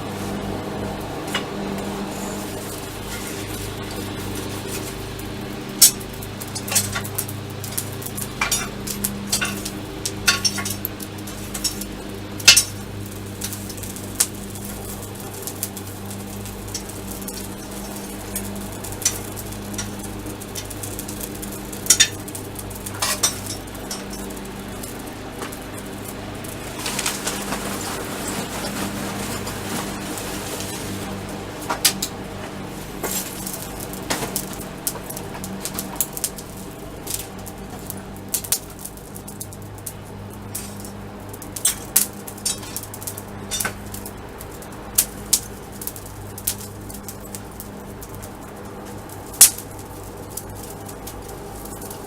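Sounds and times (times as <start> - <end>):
forge humming: 0.0 - 52.0.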